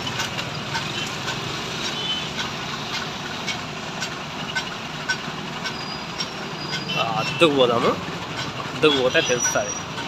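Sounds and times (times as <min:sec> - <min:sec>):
vehicle engines passing: 0:00.0 - 0:10.0.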